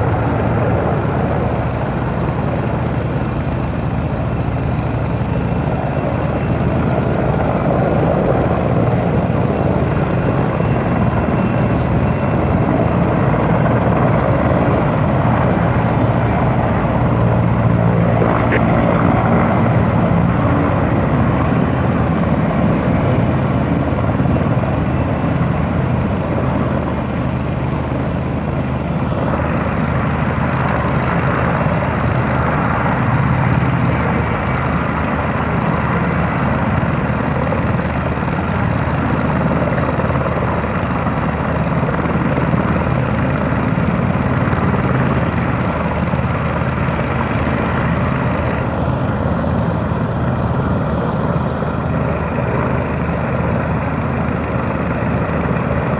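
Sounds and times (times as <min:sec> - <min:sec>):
helicopter engine and rotor: 0:00.0 - 0:55.9.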